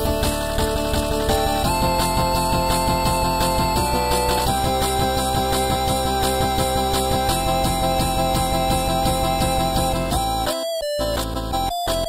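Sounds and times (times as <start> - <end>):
song with steady beat: 0.0 - 11.3.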